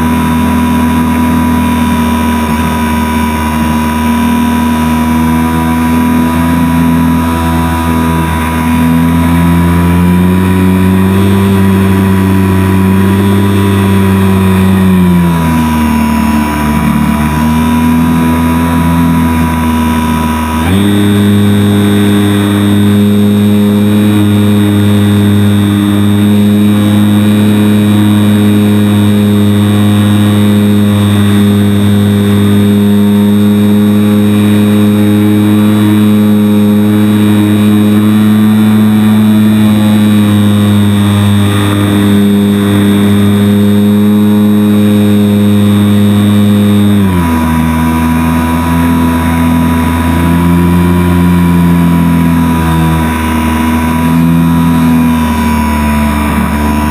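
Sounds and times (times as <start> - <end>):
electric motor and propeller whine: 0.0 - 56.9.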